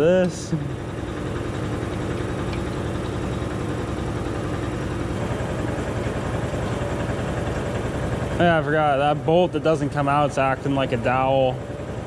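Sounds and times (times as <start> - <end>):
low machine drone: 0.0 - 12.0.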